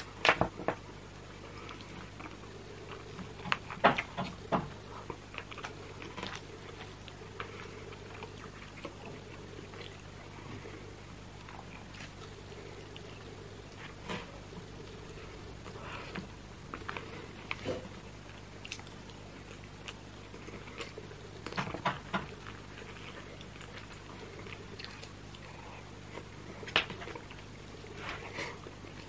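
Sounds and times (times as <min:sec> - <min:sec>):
faint low hum: 0:00.0 - 0:29.0
chewing and wet mouth sounds: 0:01.3 - 0:29.0.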